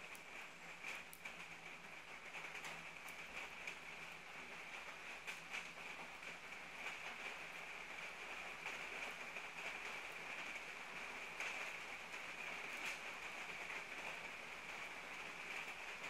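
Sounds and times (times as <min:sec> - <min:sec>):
rain on wet pavement: 0:00.0 - 0:16.0.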